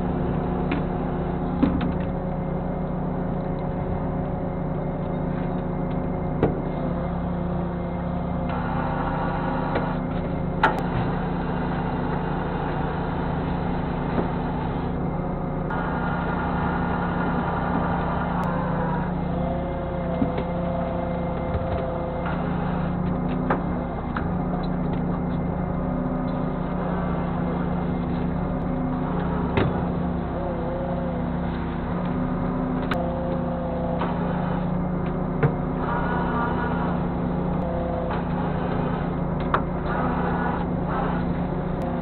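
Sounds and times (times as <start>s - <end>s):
boat engine and deck machinery: 0.0s - 42.0s
higher machine tone: 0.0s - 42.0s.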